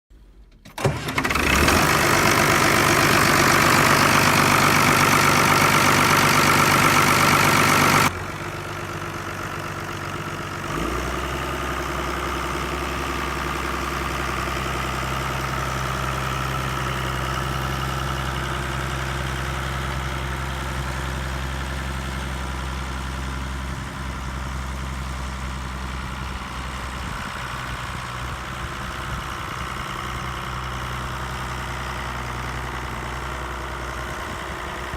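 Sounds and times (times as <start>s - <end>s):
diesel tractor engine running: 0.3s - 34.9s.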